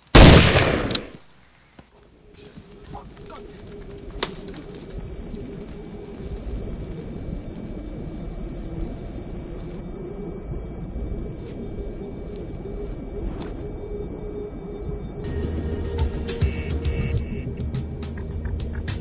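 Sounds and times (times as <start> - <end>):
high-pitched ringing tone: 1.9 - 19.0
low rumbling drone: 3.4 - 19.0.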